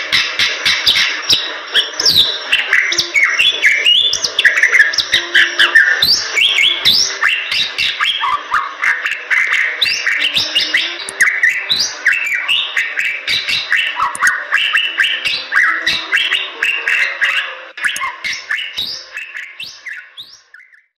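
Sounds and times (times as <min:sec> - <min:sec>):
bird chirping and whistling: 0:00.1 - 0:20.9.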